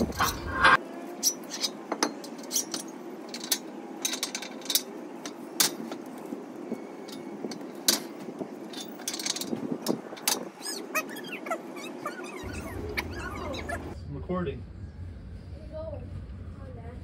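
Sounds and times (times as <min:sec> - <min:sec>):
steady low hum: 0:01.8 - 0:17.0.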